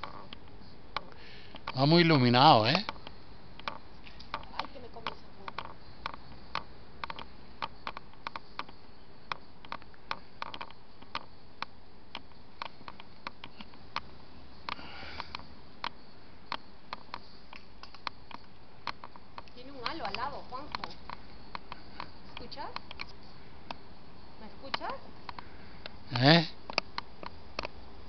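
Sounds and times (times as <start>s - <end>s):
sharp clicks: 0.0s - 23.8s, 26.6s - 27.8s
faint steady hum: 0.0s - 28.0s.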